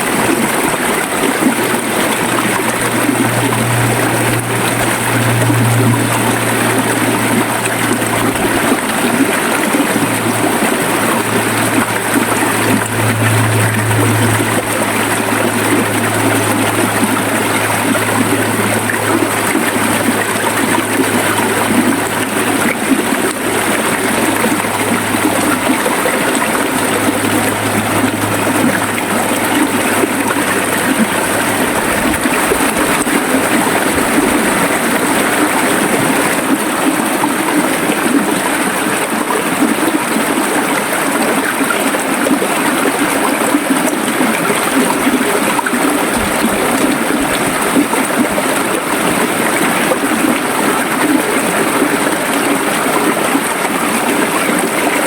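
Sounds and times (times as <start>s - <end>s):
river water gurgling: 0.0s - 55.0s.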